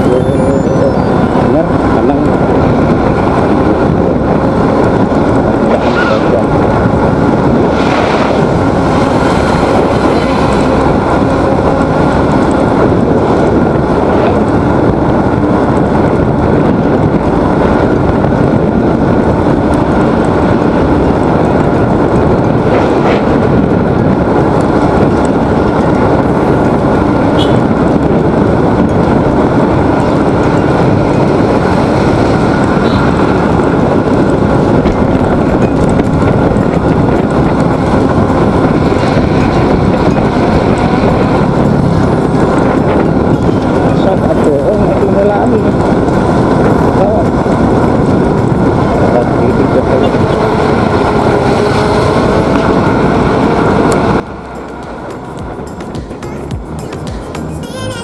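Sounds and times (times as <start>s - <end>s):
motorcycle engine: 0.0s - 57.6s
road noise: 0.0s - 58.0s
wind rushing over microphone: 0.0s - 58.0s.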